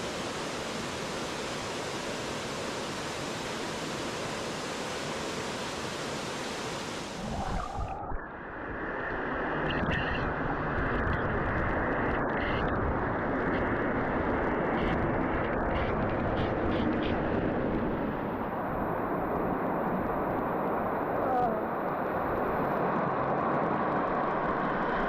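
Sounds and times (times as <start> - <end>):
rushing water roar: 0.0 - 25.0.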